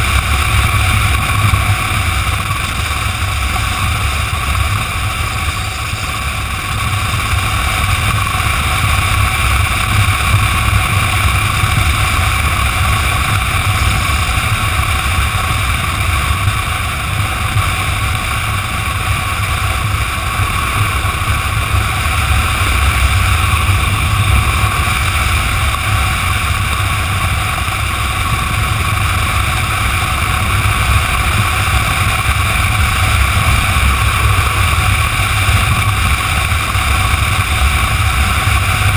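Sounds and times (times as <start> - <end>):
motorcycle engine and tyre noise: 0.0 - 38.9
wind buffeting microphone: 0.0 - 38.9.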